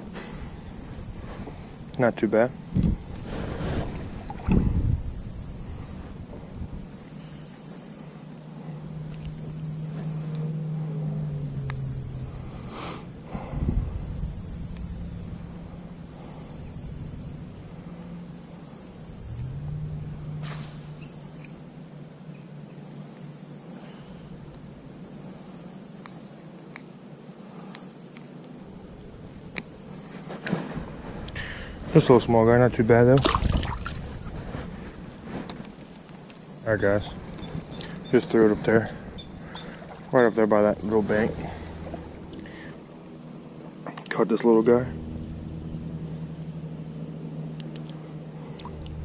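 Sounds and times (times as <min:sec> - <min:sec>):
low hum: 0:00.0 - 0:25.6, 0:28.6 - 0:49.0
insects trilling: 0:00.0 - 0:49.0.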